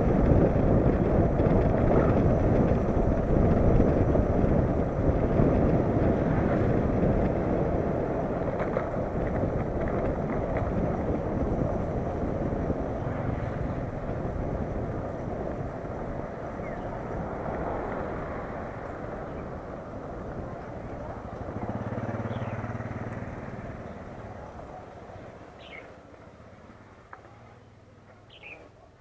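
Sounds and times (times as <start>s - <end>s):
motorcycle engine running: 0.0s - 25.8s
wind buffeting microphone: 0.0s - 26.0s.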